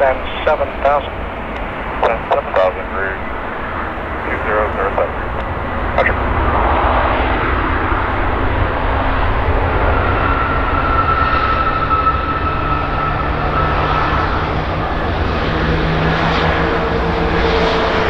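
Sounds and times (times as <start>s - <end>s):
jet engines rushing and whining: 0.0s - 18.0s.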